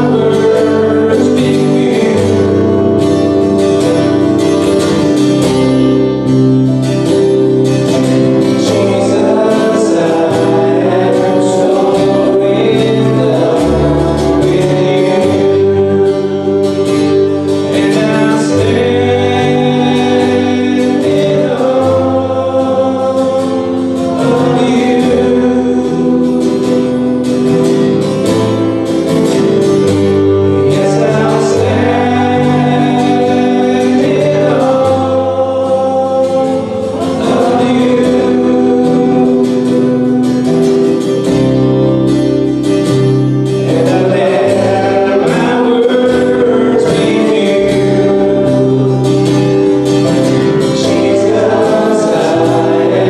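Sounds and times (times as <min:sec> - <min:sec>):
held bass notes: 0:00.0 - 0:53.0
instrumental accompaniment: 0:00.0 - 0:53.0
voices singing gospel song: 0:00.0 - 0:53.0.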